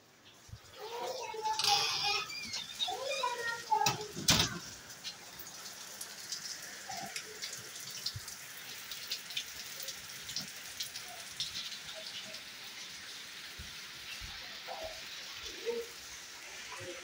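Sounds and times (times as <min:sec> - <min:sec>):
heavy rain falling: 0:00.6 - 0:17.0.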